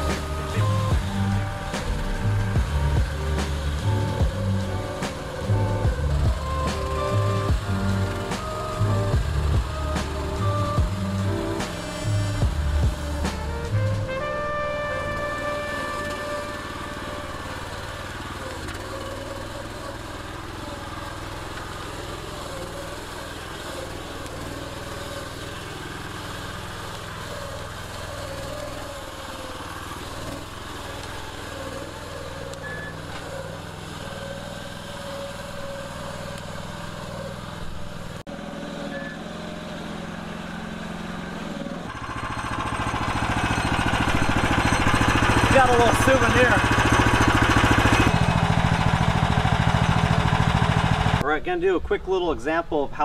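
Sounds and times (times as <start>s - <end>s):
small truck engine running: 0.0s - 53.0s.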